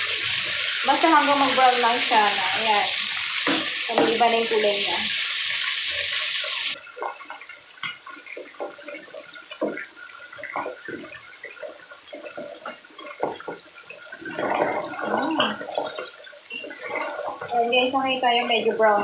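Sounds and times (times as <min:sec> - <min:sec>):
fat crackling and popping in pan: 0:00.0 - 0:19.0.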